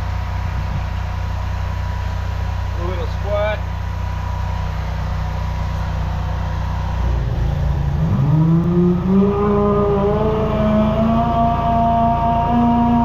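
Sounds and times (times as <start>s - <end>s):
drain jetter engine revving: 0.0s - 13.0s.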